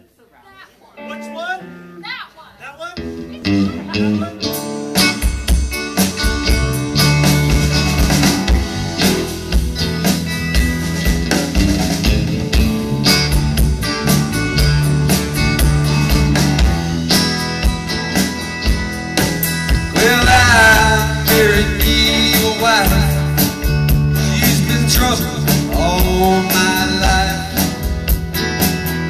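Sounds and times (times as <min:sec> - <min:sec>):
electric guitars: 0:00.9 - 0:29.0
bass guitar: 0:01.0 - 0:29.0
drum kit beat: 0:03.0 - 0:29.0.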